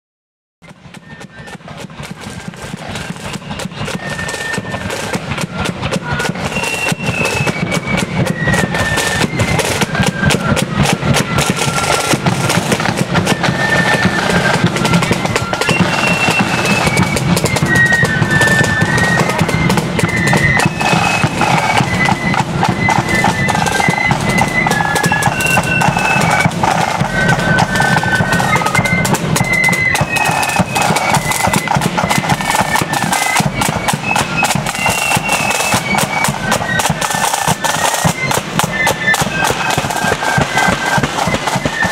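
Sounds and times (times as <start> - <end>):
flute melody: 0.6 - 41.9
snare and bass drums: 0.6 - 41.9.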